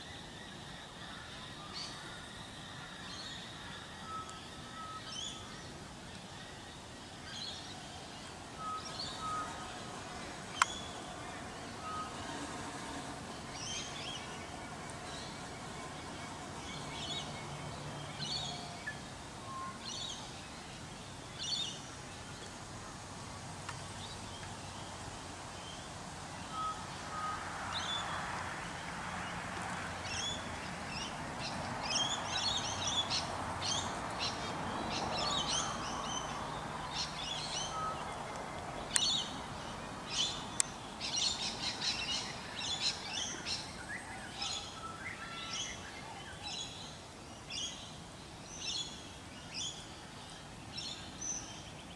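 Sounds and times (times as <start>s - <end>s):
small birds chirping: 0.0s - 22.5s, 30.1s - 51.9s
faint steady background noise: 0.0s - 51.9s.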